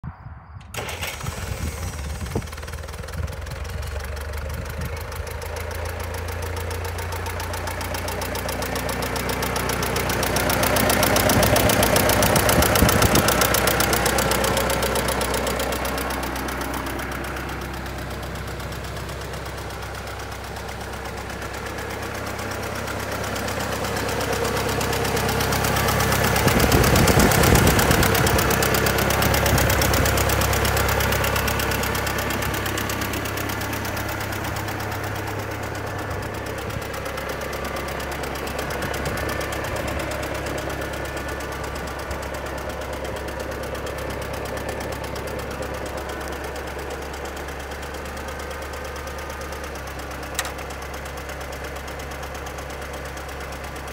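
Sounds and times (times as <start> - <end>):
tractor engine idling: 0.6 - 53.9.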